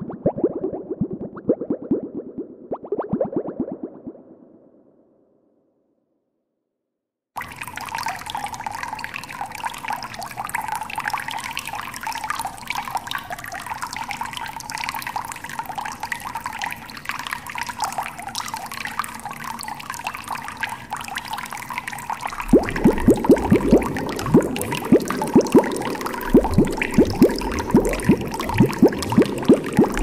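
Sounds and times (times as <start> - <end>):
aquarium water trickling and bubbling: 0.0 - 4.4, 7.4 - 30.0.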